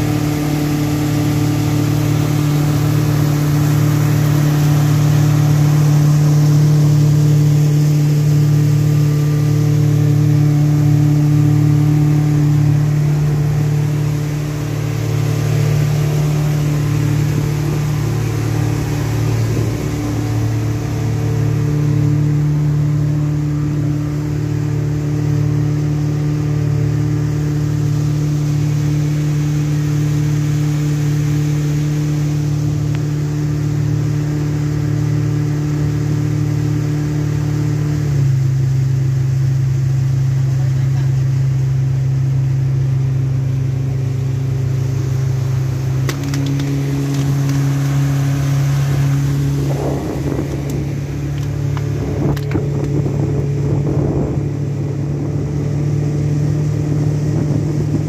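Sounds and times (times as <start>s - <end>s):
boat engines droning: 0.0s - 58.0s.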